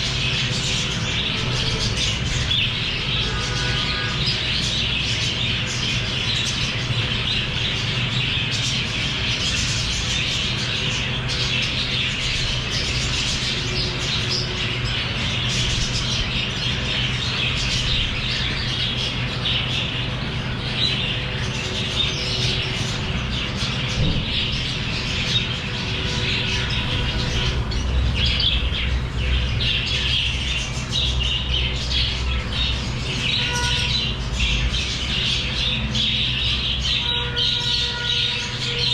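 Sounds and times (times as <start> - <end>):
parrots chattering and squawking: 0.0 - 38.9.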